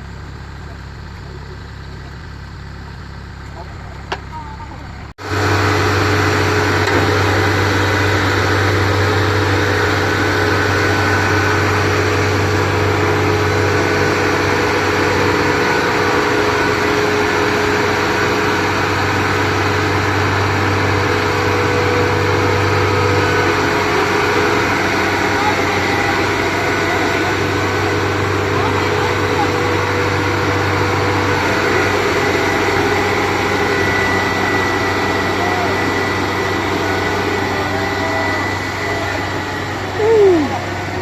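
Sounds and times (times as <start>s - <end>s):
diesel engine running steadily: 0.0s - 41.0s.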